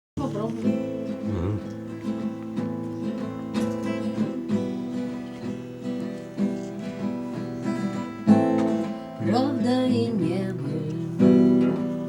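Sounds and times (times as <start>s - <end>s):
acoustic guitar strumming chords: 0.2s - 12.0s.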